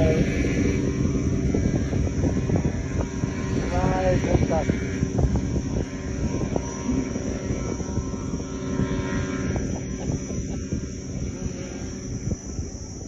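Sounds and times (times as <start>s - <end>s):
glider propeller engine droning: 0.0s - 13.0s.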